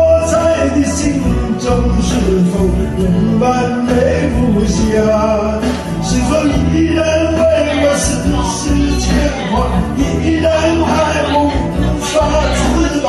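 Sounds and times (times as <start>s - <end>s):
man singing into a microphone: 0.0s - 13.0s
pop backing track: 0.0s - 13.0s.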